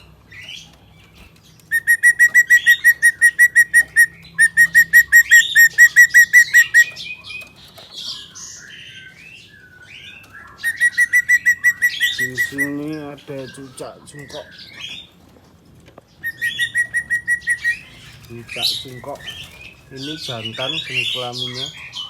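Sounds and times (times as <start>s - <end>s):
bird chirps and squeaks: 0.0s - 15.2s, 16.1s - 22.0s
bird singing sharp repeated notes: 1.7s - 7.5s, 8.1s - 15.1s, 16.2s - 22.0s.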